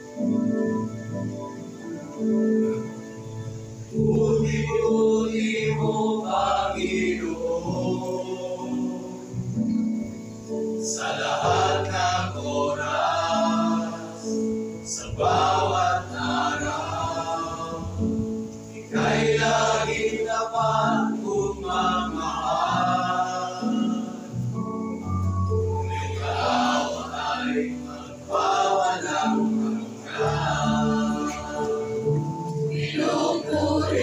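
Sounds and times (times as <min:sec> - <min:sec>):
mixed choir singing gospel: 0:03.8 - 0:34.0.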